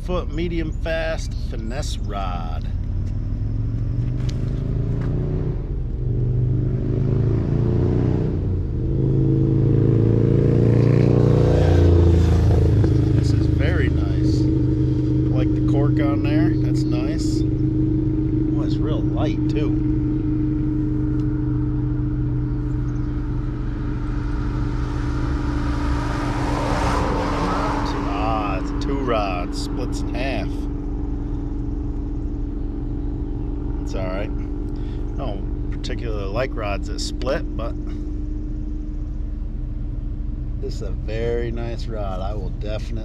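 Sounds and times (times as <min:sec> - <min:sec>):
engine humming: 0:00.0 - 0:43.0.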